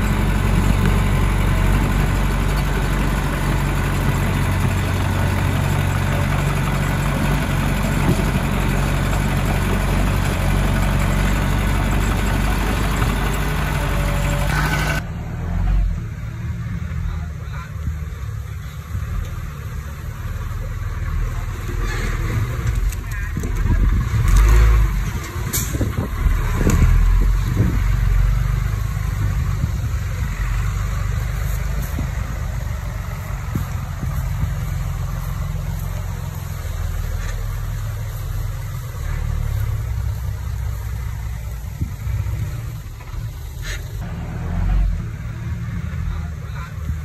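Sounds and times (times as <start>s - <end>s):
bulldozer diesel engine drone: 0.0s - 47.0s.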